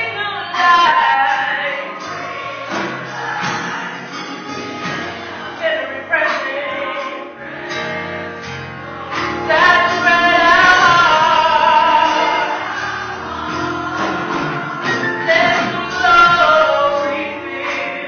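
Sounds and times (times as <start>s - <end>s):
choir singing gospel music: 0.0s - 18.0s.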